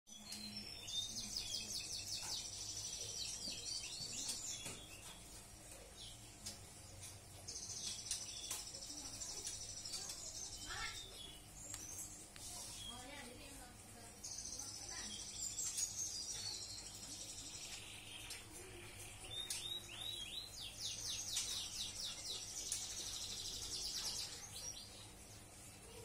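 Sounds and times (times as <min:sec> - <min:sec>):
birds trilled warbling: 0:00.1 - 0:26.0.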